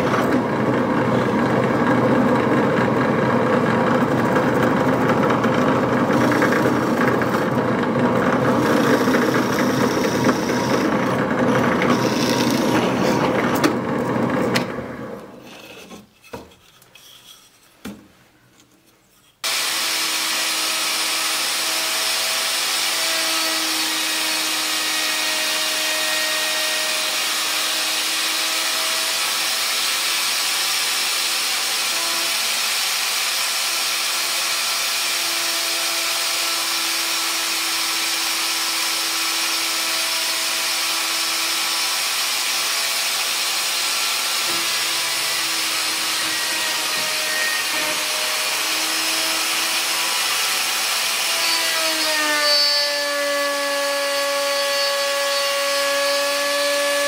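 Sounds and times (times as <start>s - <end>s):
router motor whining: 0.0s - 14.8s, 19.4s - 57.0s.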